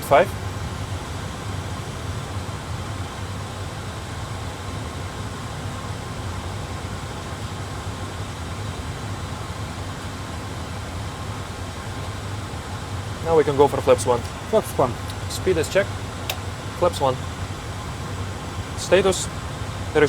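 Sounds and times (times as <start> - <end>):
airflow and fans hissing: 0.0 - 20.0.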